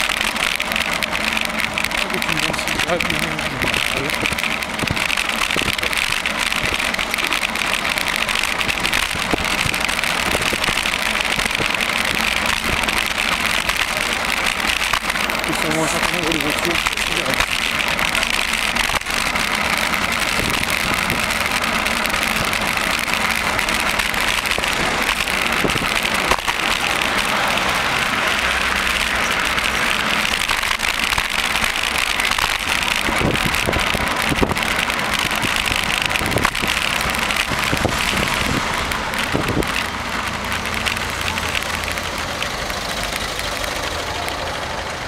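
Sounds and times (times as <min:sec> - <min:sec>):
bicycle road and wind noise: 0:00.0 - 0:45.0.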